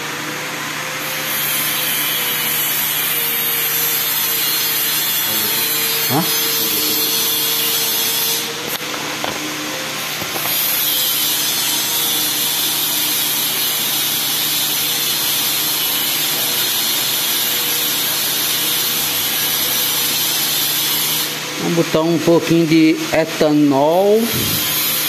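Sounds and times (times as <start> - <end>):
machine hissing and humming: 0.0 - 25.0.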